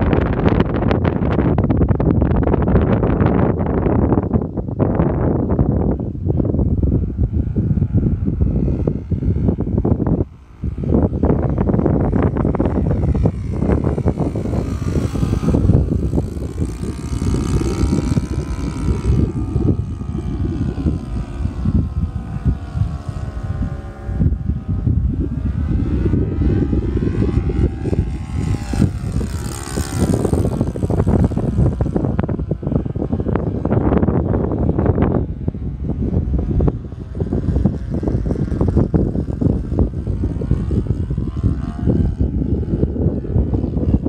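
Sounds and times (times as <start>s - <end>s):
propeller plane engine droning: 0.0s - 44.0s
wind buffeting microphone: 0.0s - 44.0s.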